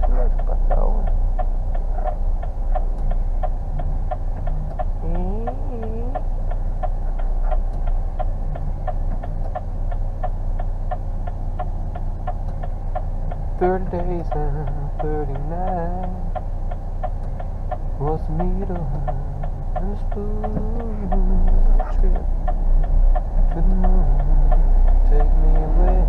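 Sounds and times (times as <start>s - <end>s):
diesel engine idling: 0.0s - 26.0s
turn signal ticking: 0.0s - 26.0s.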